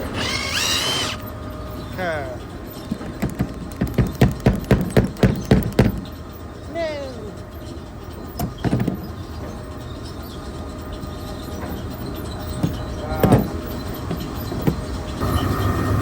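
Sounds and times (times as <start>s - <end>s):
mill machinery rumbling: 0.0s - 16.0s.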